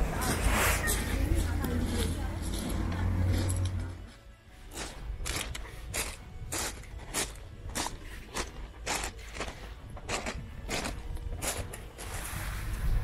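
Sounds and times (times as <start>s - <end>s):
footsteps on pebbles: 0.0s - 12.6s.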